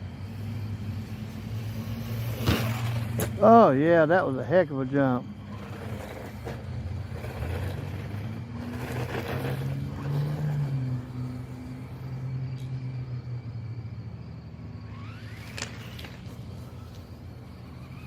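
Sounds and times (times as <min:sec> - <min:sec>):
toy truck motor humming: 0:00.0 - 0:12.7, 0:14.0 - 0:18.0.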